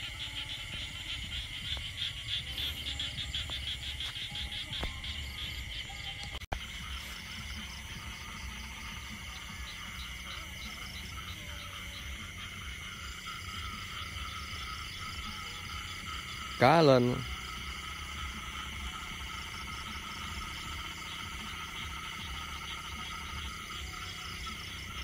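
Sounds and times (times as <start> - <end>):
frogs calling: 0.0 - 25.0
insects calling: 0.0 - 25.0.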